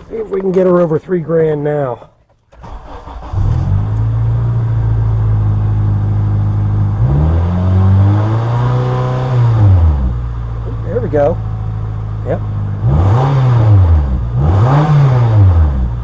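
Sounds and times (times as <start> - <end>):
car engine revving: 2.6 - 16.0.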